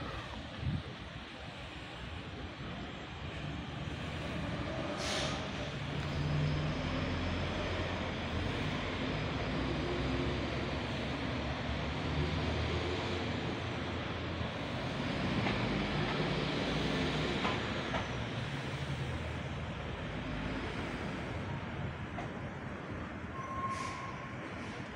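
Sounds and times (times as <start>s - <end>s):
street traffic: 0.0s - 24.9s
vehicle low engine drone: 0.0s - 24.9s.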